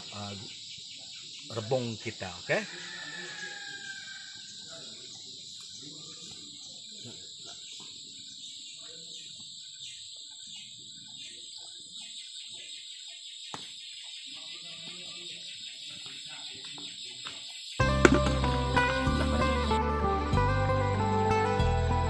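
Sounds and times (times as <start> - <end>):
crickets chirping: 0.0 - 19.8.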